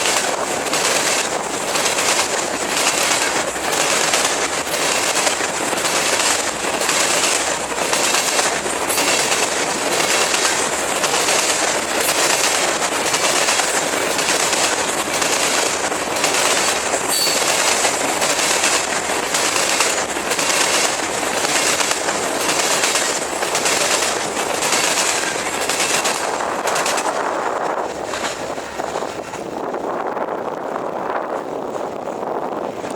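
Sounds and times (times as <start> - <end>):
train rumble: 0.0 - 32.9
train wheels clacking on rails: 0.0 - 32.9.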